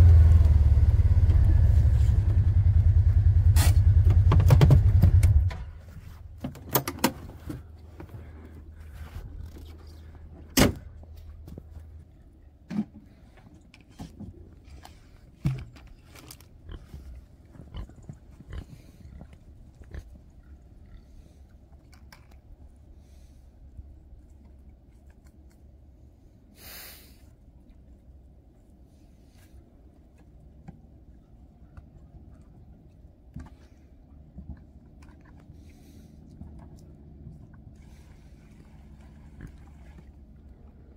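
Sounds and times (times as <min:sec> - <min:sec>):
low engine hum: 0:00.0 - 0:26.6, 0:27.3 - 0:40.9.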